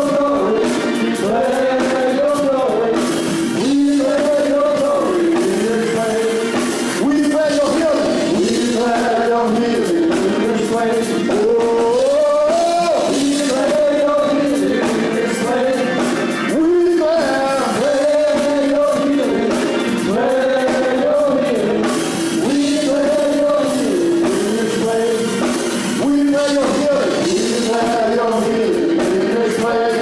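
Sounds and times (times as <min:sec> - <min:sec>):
band accompaniment: 0:00.0 - 0:30.0
gospel singing voices: 0:00.0 - 0:30.0.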